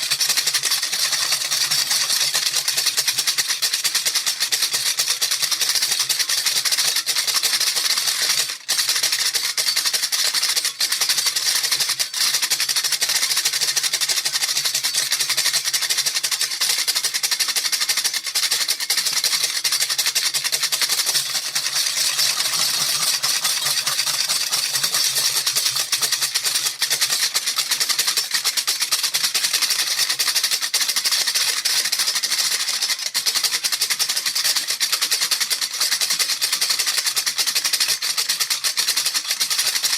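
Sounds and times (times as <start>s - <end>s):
handheld rattle shaken: 0.0s - 39.9s.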